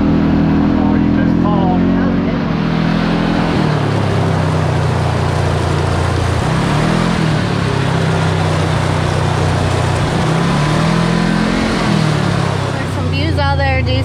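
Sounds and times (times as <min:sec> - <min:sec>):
road and wind noise: 0:00.0 - 0:14.0
side-by-side engine running: 0:00.0 - 0:14.0.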